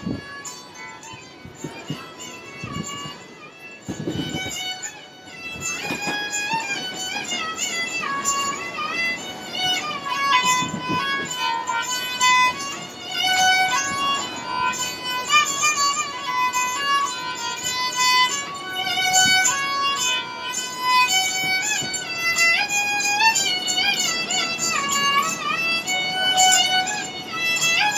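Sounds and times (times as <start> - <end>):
bowed string folk melody: 0.0 - 27.9.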